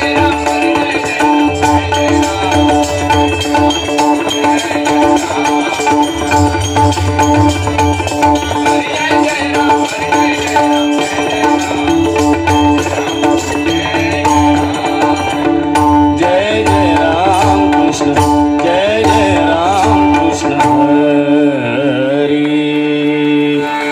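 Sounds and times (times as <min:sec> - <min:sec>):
man singing: 0:00.0 - 0:23.9.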